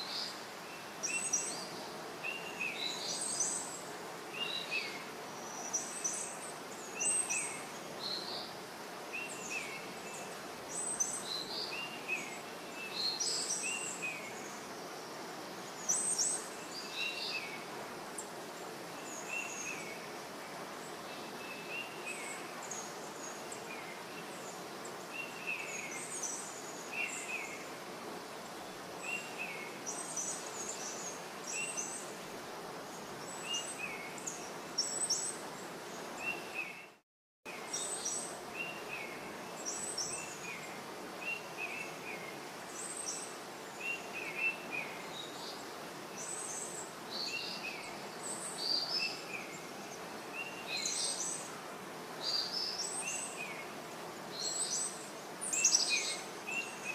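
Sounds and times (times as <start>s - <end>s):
small birds chirping: 0.0s - 37.0s, 37.6s - 56.9s
steady background hiss: 0.0s - 56.9s.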